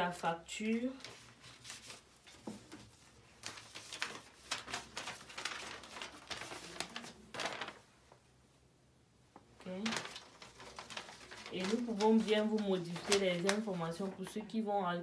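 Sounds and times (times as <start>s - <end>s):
paper rustling and crackling: 0.6s - 7.9s, 9.6s - 14.7s.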